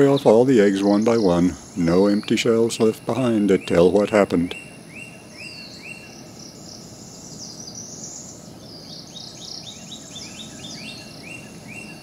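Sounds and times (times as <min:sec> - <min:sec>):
faint high chirping: 0:00.0 - 0:12.0
low steady background noise: 0:00.0 - 0:12.0.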